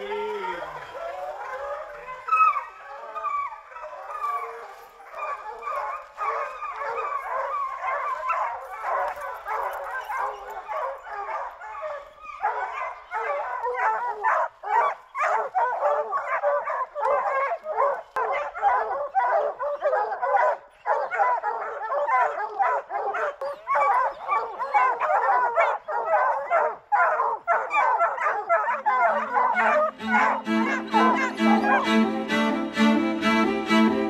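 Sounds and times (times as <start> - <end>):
hounds baying and barking: 0.0 - 34.0.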